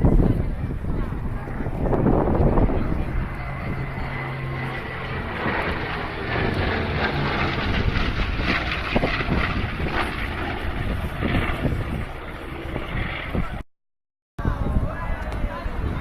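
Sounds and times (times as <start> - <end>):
propeller aircraft engine: 0.0 - 13.6.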